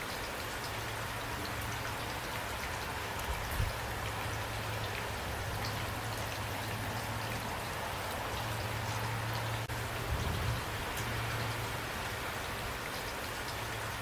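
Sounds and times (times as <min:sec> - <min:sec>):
raindrops striking close by: 0:00.0 - 0:14.0
steady rain falling: 0:00.0 - 0:14.0.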